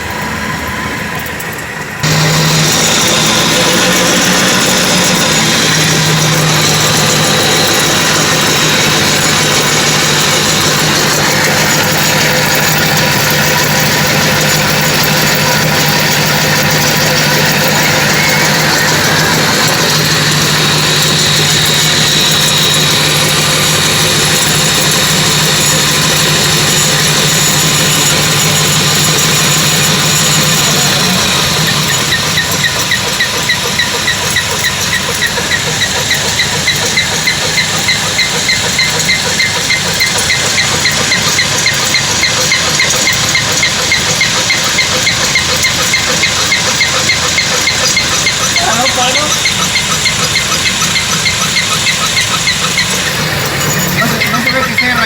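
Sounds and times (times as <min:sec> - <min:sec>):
car engine running: 0:00.0 - 0:55.0
rhythmic wheel bearing chirping: 0:00.0 - 0:55.0.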